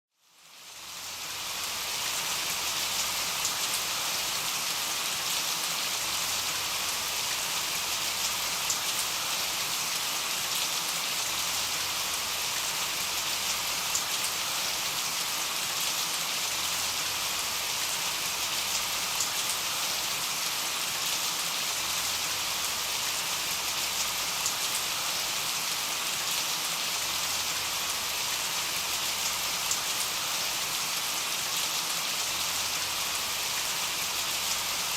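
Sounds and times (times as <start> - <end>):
rain hissing: 0.7 - 34.9.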